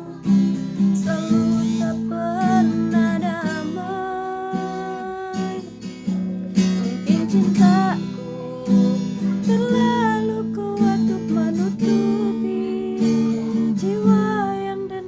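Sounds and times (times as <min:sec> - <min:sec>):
person singing without words: 0:00.0 - 0:05.8, 0:06.8 - 0:15.0
acoustic guitar strumming: 0:00.0 - 0:15.0.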